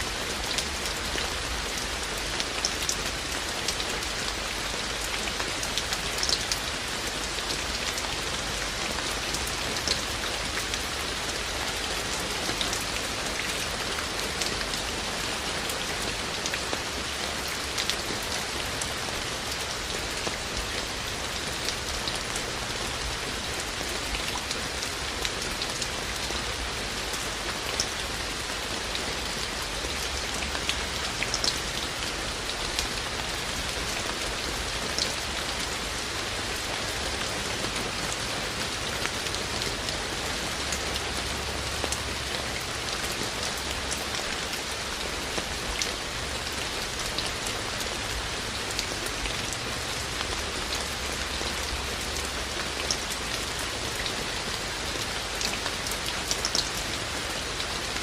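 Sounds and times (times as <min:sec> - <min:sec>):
raindrops ticking on surfaces: 0:00.0 - 0:58.0
steady rain hiss: 0:00.0 - 0:58.0.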